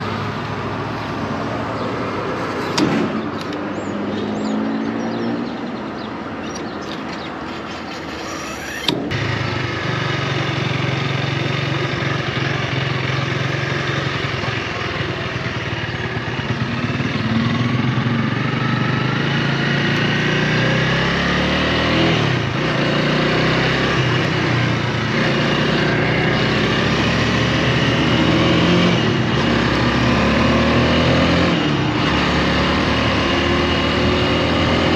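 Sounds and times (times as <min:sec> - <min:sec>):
motorcycle engine running: 0:06.0 - 0:34.9.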